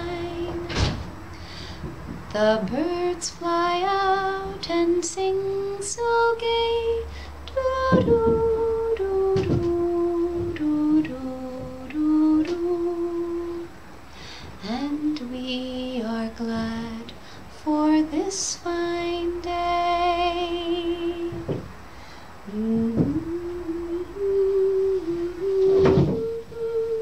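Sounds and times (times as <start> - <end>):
woman singing wordless tune: 0.0 - 1.6, 2.3 - 13.8, 14.4 - 21.8, 22.4 - 27.0.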